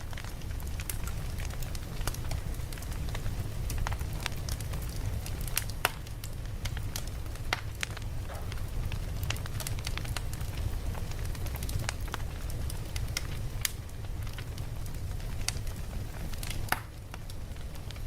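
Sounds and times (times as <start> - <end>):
campfire crackling: 0.0 - 18.0
low fire rumble: 0.0 - 18.0.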